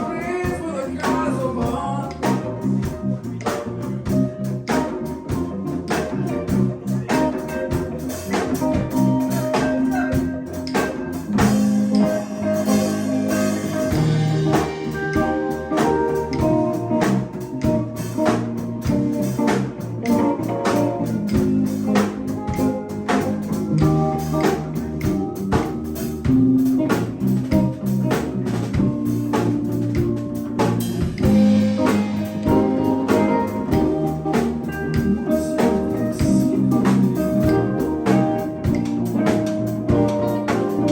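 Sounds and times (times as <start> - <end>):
guitar: 0.0 - 40.9
drum beat: 4.1 - 40.9.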